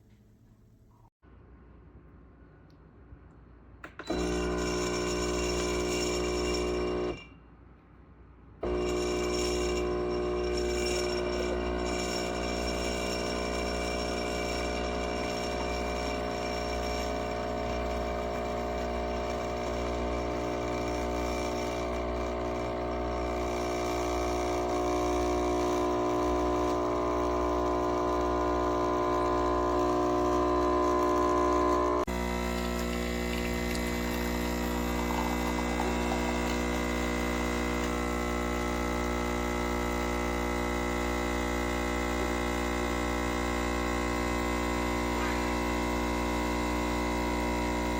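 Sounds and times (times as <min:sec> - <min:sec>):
espresso machine pump buzzing: 0:03.9 - 0:07.3, 0:08.6 - 0:47.9.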